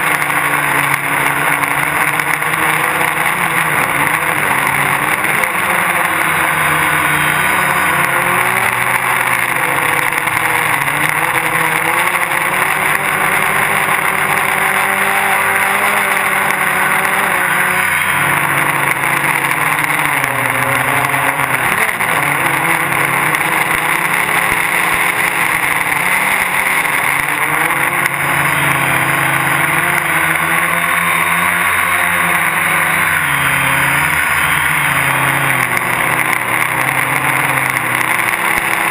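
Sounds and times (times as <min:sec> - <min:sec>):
drone propellers whirring: 0:00.0 - 0:38.9.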